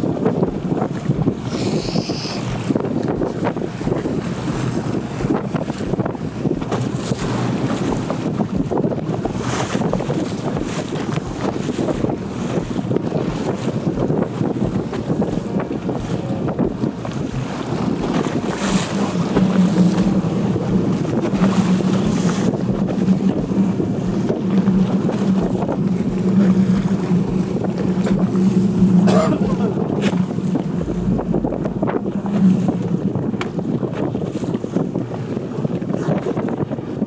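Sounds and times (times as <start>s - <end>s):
boat engine humming: 0.0s - 37.0s
water rushing past hull: 0.0s - 37.0s
wind buffeting microphone: 0.0s - 37.0s.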